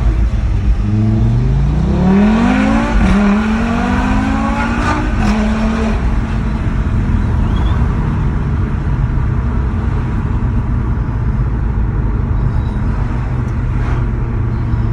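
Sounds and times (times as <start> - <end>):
car engine idling low rumble: 0.0 - 14.9.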